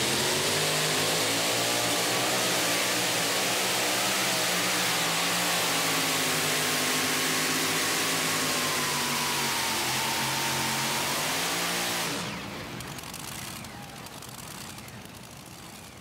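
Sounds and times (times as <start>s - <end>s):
supercharged truck engine at full throttle: 0.0s - 16.0s.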